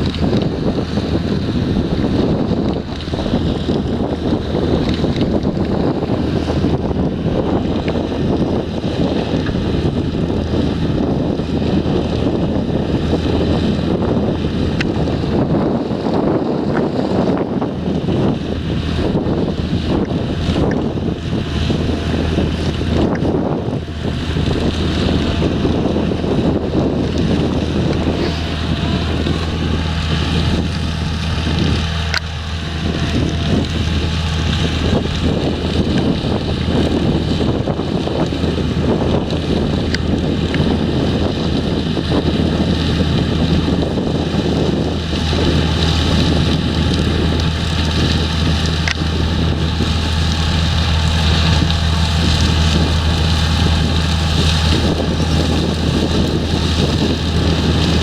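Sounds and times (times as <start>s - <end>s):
harvesting machinery engine drone: 0.0s - 58.0s
wind buffeting microphone: 0.0s - 58.0s.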